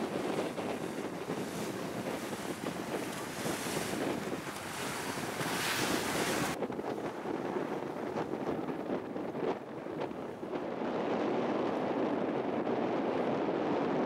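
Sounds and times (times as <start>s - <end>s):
sea water rushing around boat: 0.0s - 14.0s
wind buffeting microphone: 0.0s - 14.0s.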